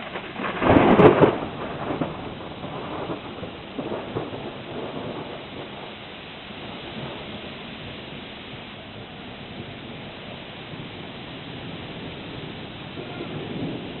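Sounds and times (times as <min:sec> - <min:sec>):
thunder clap and rumble: 0:00.0 - 0:14.0.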